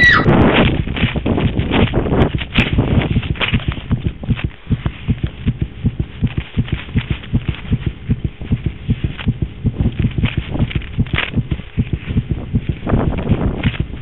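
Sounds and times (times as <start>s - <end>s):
fast heartbeat: 0.0s - 14.0s.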